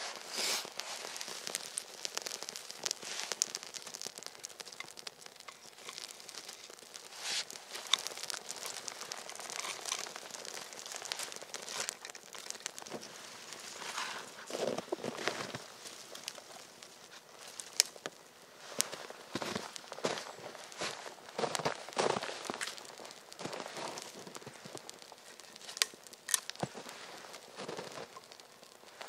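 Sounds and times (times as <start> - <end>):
campfire crackling: 0.0 - 29.0
soft fire hiss: 0.0 - 29.0.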